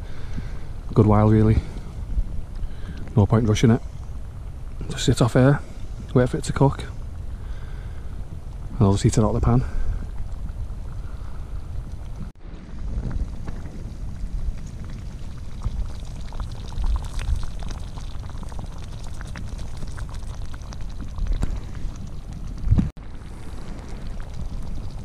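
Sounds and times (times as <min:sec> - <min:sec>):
thick stew bubbling: 0:00.0 - 0:25.0.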